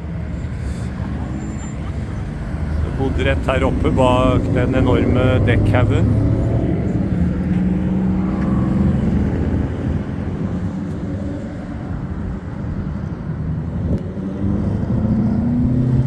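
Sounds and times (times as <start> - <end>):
car engines passing: 0.0 - 16.0
steady engine hum: 0.0 - 16.0.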